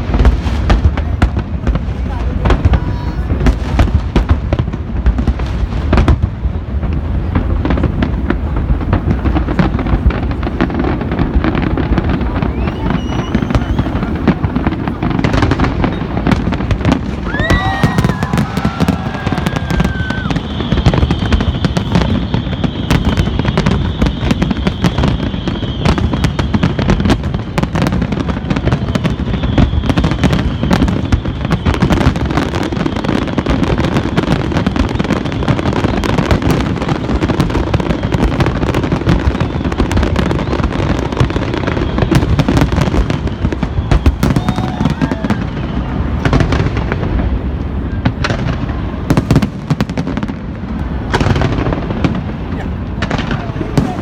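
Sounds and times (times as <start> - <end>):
fireworks bangs and crackling: 0.0 - 54.0
fireworks whistling: 0.0 - 54.0.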